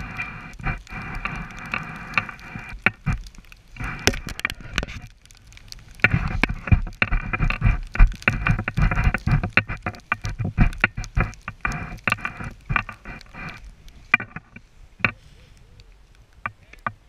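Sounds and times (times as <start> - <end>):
skis hissing over snow: 0.0 - 4.7, 6.0 - 15.8.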